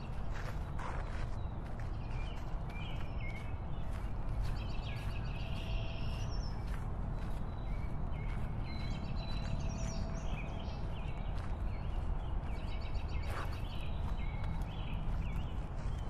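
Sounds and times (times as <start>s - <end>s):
birds chirping: 0.0s - 16.0s
wind: 0.0s - 16.0s.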